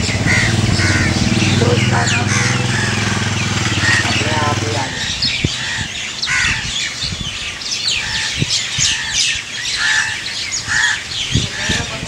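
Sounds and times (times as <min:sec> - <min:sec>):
birds chirping high: 0:00.0 - 0:12.0
lower longer bird calls: 0:00.0 - 0:12.0.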